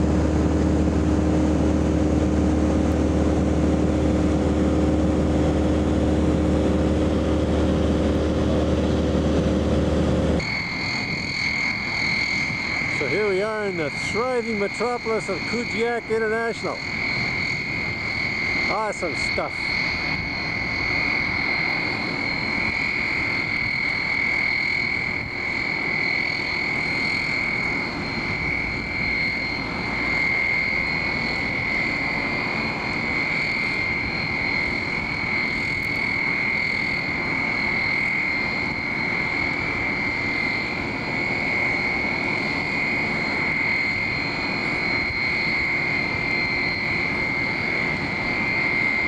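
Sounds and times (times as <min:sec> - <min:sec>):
aircraft engine running: 0:00.0 - 0:49.0.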